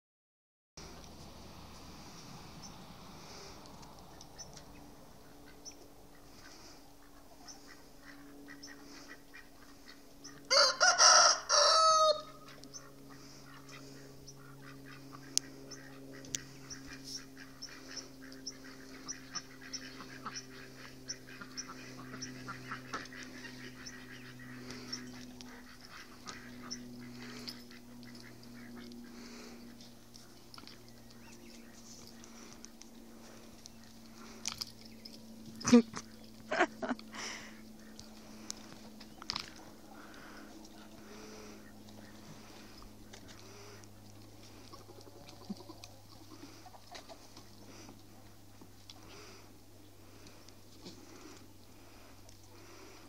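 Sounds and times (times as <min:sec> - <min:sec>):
faint steady hum: 0:00.8 - 0:53.0
farm animal call: 0:01.8 - 0:53.0.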